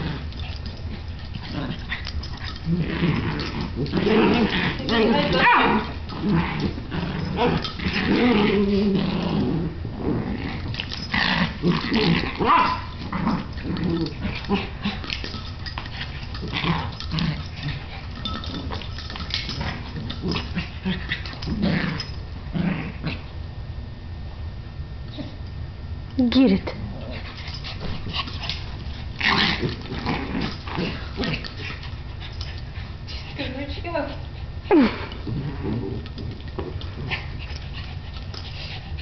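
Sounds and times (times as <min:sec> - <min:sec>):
dogs scuffling and scrabbling: 0:00.0 - 0:23.2, 0:27.1 - 0:39.0
small dogs growling: 0:00.0 - 0:23.4, 0:26.6 - 0:33.5, 0:34.2 - 0:39.0.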